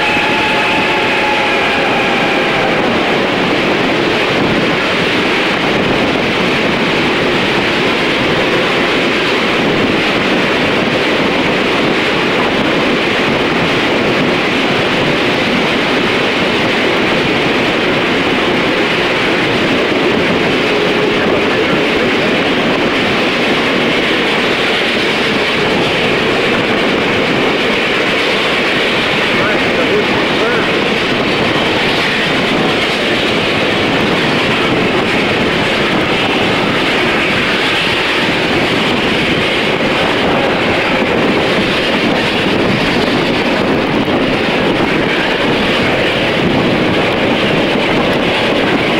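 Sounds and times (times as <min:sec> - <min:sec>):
rushing air: 0:00.0 - 0:48.9
train wheels on rail: 0:00.0 - 0:48.9.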